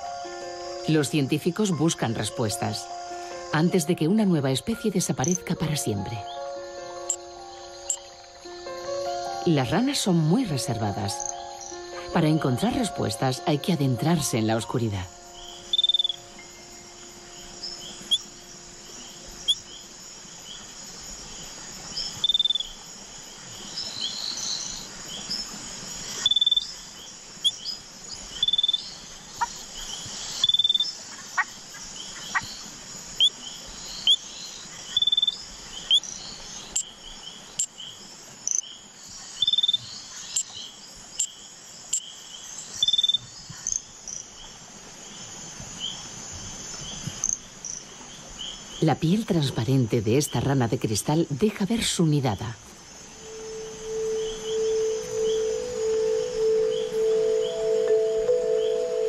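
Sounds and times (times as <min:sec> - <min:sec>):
high insect trill: 0:00.0 - 0:59.0
tree frogs chirping: 0:00.0 - 0:59.0.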